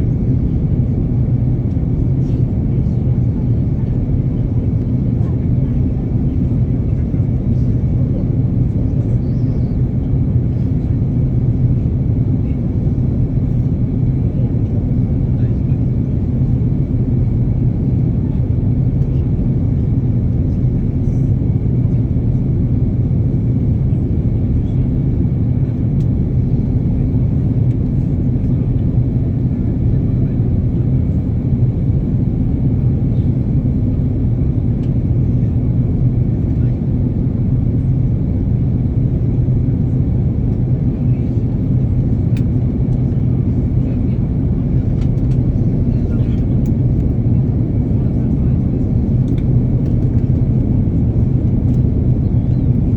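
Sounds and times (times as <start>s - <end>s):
airplane engines droning: 0.0s - 52.9s.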